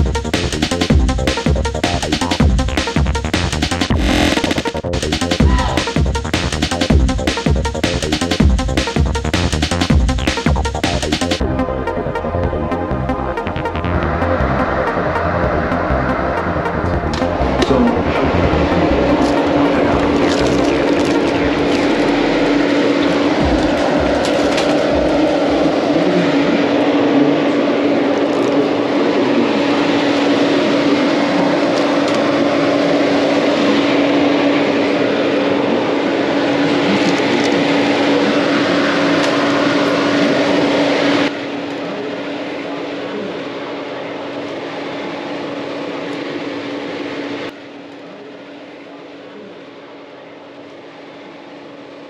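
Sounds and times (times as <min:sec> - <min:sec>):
steady low tone: 0:00.0 - 0:09.4, 0:10.0 - 0:52.0
machine hum: 0:00.0 - 0:52.0
rushing fan noise: 0:00.0 - 0:52.0.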